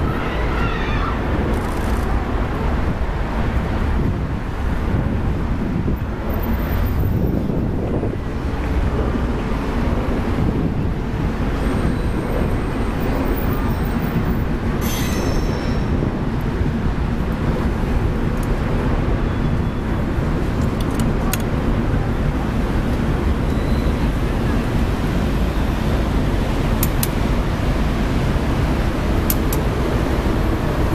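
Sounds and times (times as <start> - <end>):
road traffic: 0.0 - 30.9
wind rumble on microphone: 0.0 - 30.9.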